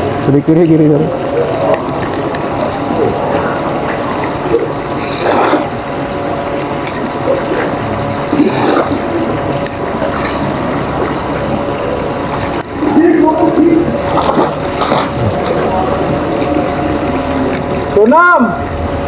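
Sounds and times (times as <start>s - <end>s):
mechanical hum: 0.0s - 19.0s
running water: 0.0s - 19.0s.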